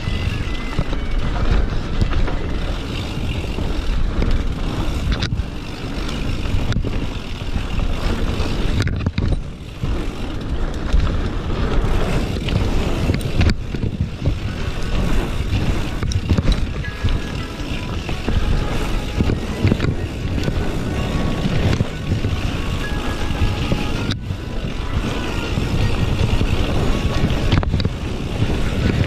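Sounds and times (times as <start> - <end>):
bike rattling: 0.0 - 29.0
tyres over dirt trail: 0.0 - 29.0
wind on microphone: 0.0 - 29.0.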